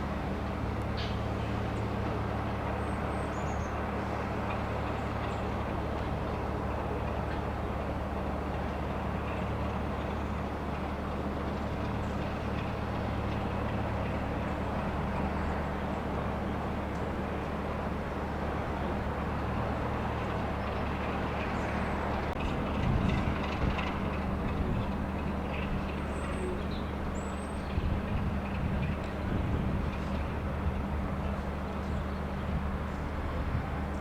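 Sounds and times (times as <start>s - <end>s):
diesel locomotive engine idling: 0.0s - 34.0s.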